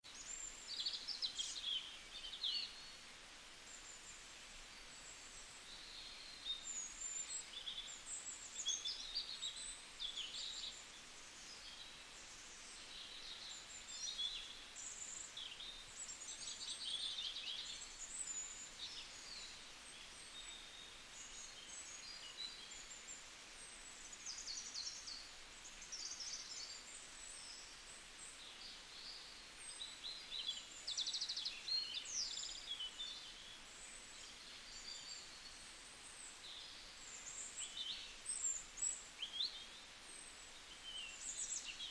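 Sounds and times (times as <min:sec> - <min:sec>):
steady background hiss: 0:00.0 - 0:41.9.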